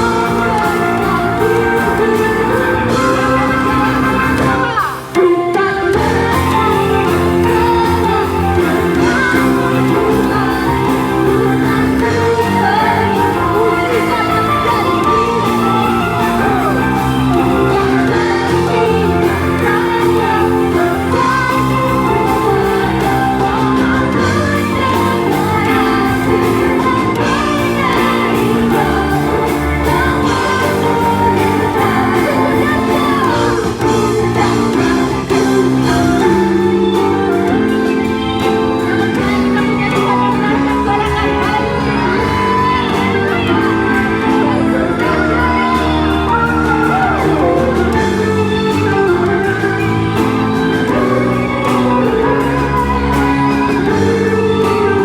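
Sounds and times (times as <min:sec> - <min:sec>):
band playing worship song: 0:00.0 - 0:55.0
keyboards: 0:00.0 - 0:55.0
voices singing: 0:00.0 - 0:55.0.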